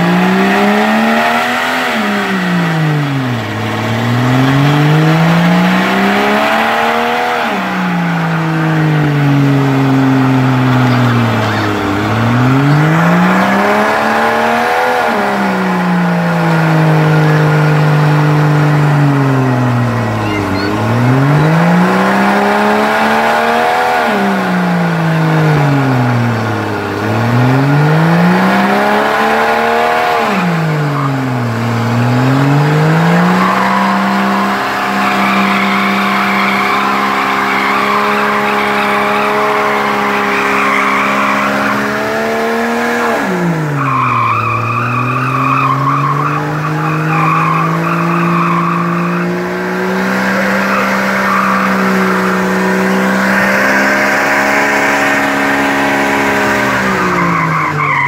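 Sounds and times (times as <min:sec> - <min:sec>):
engine revving: 0:00.0 - 0:58.0
tyres screeching: 0:00.6 - 0:15.2, 0:16.2 - 0:23.8, 0:28.7 - 0:58.0.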